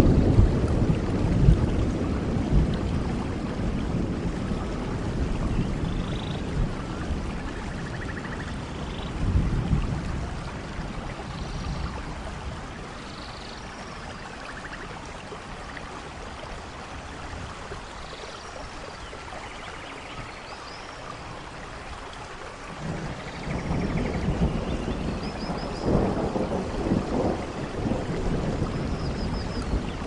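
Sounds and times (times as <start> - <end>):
low rumble of thunder: 0.0 - 16.0, 21.3 - 30.0
rain falling on leaves: 0.0 - 30.0.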